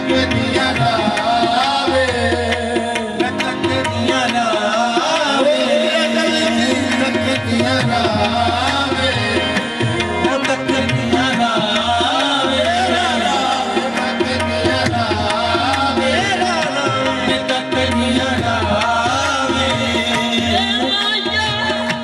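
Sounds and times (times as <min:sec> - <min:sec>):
harmoniums playing melody: 0:00.0 - 0:22.0
tabla rhythm: 0:00.0 - 0:22.0.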